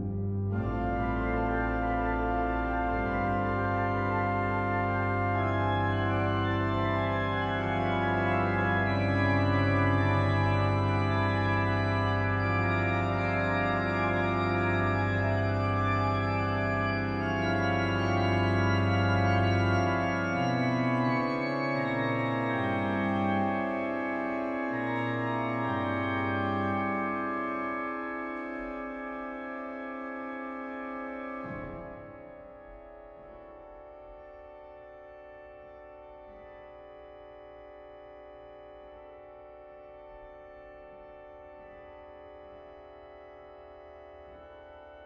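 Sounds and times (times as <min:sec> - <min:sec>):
pipe organ playing chords: 0:00.0 - 0:45.0.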